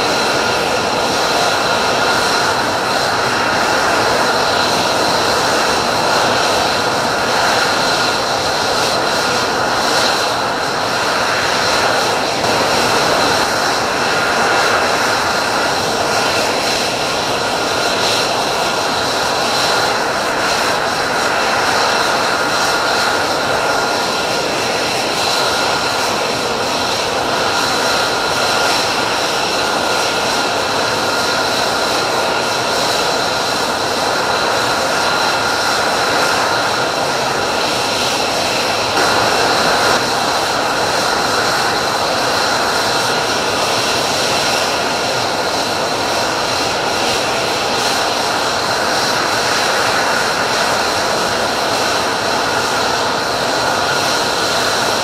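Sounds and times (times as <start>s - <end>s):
jet engine whine: 0.0s - 55.0s.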